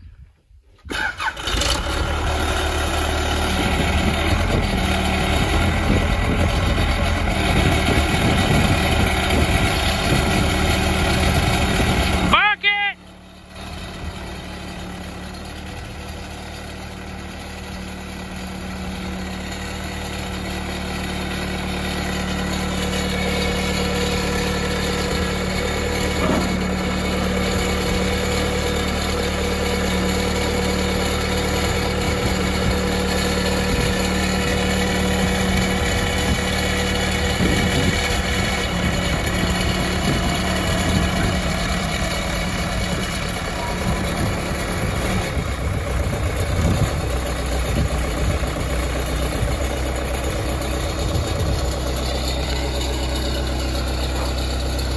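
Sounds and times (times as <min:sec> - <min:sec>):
backhoe engine running: 0:00.0 - 0:54.9.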